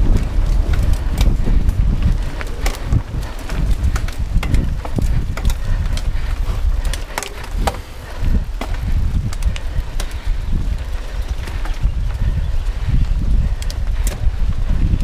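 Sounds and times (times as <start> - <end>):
bike clicking and rattling: 0.0 - 15.0
wind rumble on microphone: 0.0 - 15.0.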